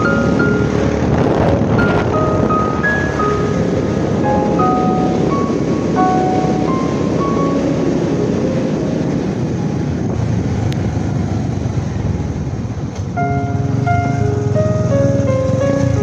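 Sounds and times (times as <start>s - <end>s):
wind noise: 0.0s - 13.4s
motorcycle engine rumble: 0.0s - 16.0s.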